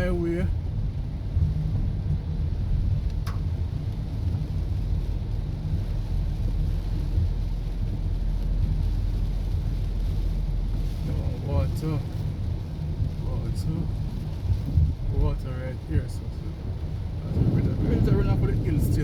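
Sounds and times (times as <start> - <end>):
car driving on wet road: 0.0 - 19.0.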